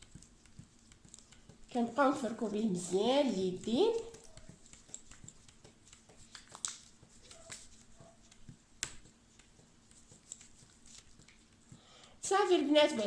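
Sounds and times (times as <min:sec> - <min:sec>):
hands rubbing with scrub: 0:00.0 - 0:11.8.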